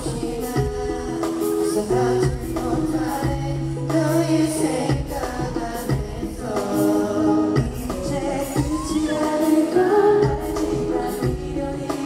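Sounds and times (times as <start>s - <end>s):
bass and keyboard backing track: 0.0s - 12.0s.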